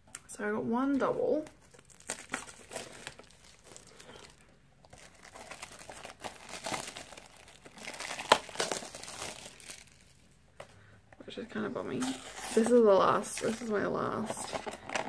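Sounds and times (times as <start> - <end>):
plastic wrapping crinkling: 1.4 - 10.4, 11.9 - 15.0.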